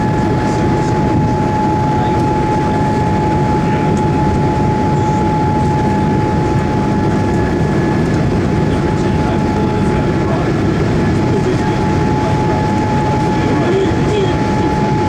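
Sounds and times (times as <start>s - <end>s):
airliner cabin engine rumble: 0.0s - 15.0s
constant high hum: 0.0s - 15.0s.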